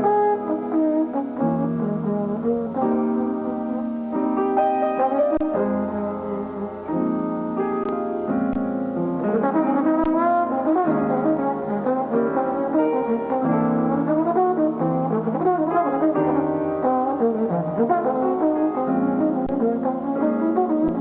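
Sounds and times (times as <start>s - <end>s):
trombone melody: 0.0s - 6.8s, 9.2s - 21.0s
piano chords: 0.0s - 21.0s.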